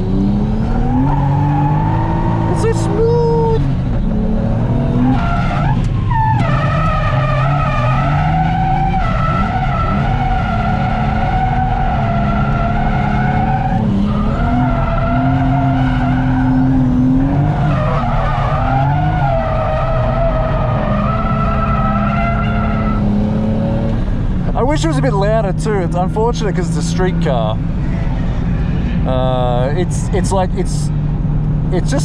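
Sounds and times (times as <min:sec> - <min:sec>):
car engine at high revs: 0:00.0 - 0:32.0.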